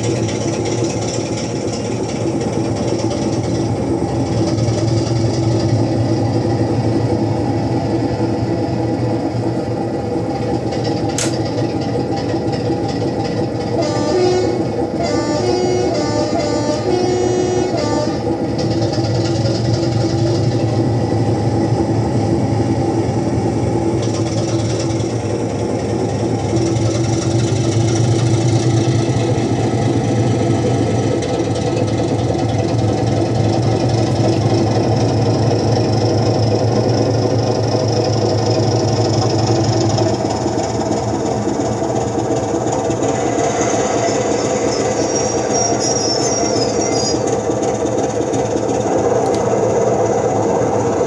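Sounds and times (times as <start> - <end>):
diesel locomotive engine drone: 0.0 - 51.0.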